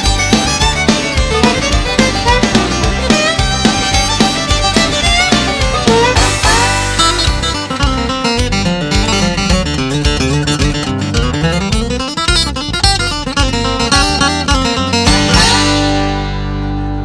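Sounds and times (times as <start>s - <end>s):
country music acoustic guitar: 0.0s - 17.0s.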